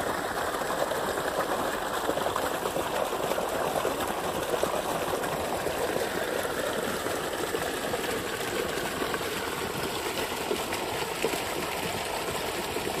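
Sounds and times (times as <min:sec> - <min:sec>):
water gushing into a pool: 0:00.0 - 0:13.0.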